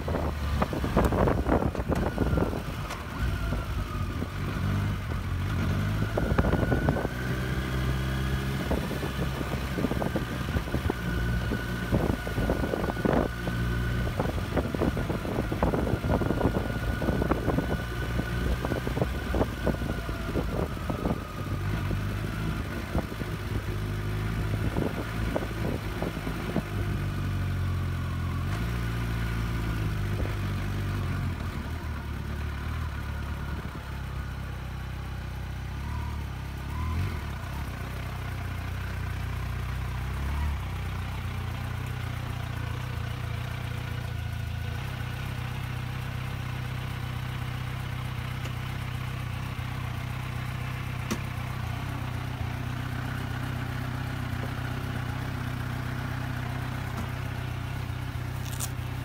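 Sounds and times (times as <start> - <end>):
motorcycle engine running and idling: 0.0 - 59.0.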